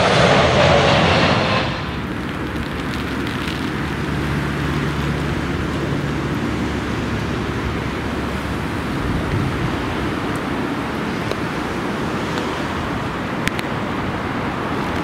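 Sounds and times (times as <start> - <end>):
distant jet airliner: 0.0 - 15.0
gusty storm wind: 0.0 - 15.0.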